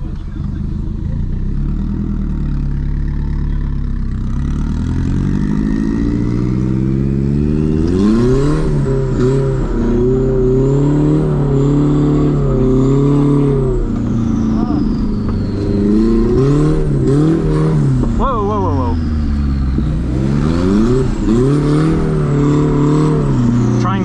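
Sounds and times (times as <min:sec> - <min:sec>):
turbocharged car engine revving: 0:00.0 - 0:24.0.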